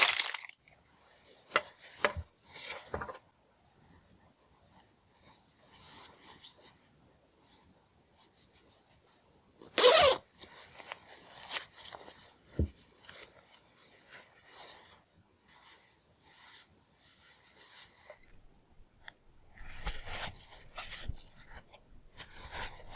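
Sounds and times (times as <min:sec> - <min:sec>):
cloth rubbing and rustling: 0:00.9 - 0:03.1, 0:03.8 - 0:22.9.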